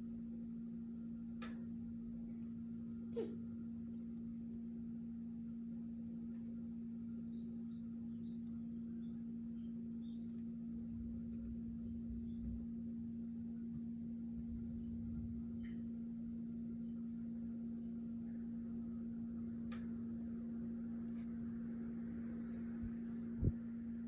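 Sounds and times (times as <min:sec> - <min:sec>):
faint low rumble: 0:00.0 - 0:24.0
steady low hum: 0:00.0 - 0:24.0.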